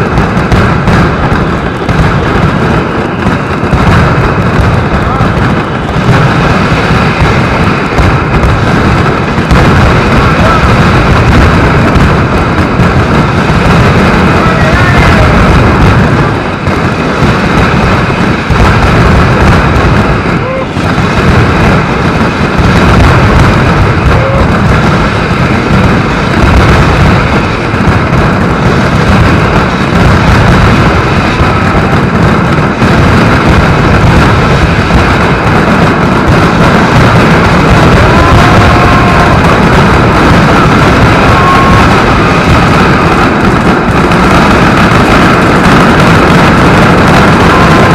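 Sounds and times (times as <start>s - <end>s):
firecrackers exploding: 0.0s - 47.9s.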